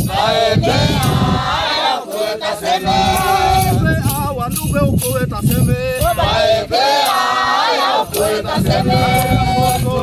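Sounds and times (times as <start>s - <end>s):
men singing a chant: 0.0s - 10.0s.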